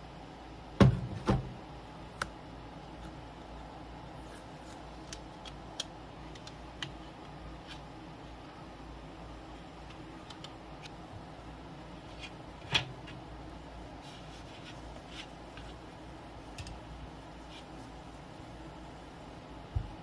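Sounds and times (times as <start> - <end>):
room noise hum: 0.0 - 20.0.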